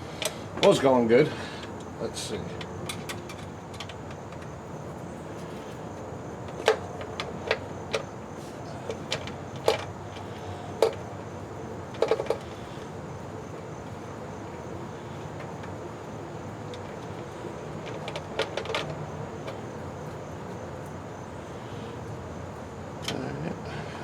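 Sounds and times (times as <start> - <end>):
steady low hiss: 0.0 - 24.0.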